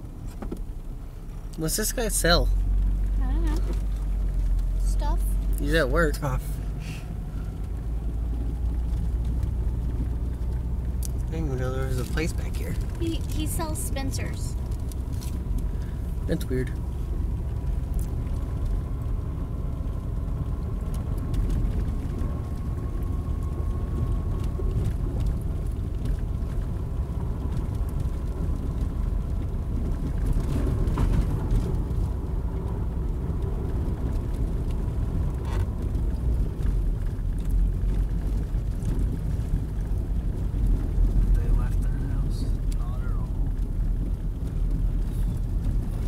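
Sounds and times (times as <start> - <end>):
car driving low rumble: 0.0 - 46.0.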